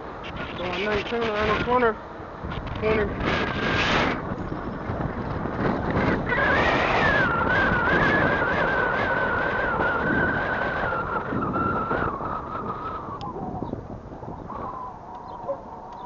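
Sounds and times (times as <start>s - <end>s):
bicycle tyres on pavement: 0.0s - 16.0s
thin wavering whine: 0.0s - 16.0s
wind noise: 0.0s - 16.0s.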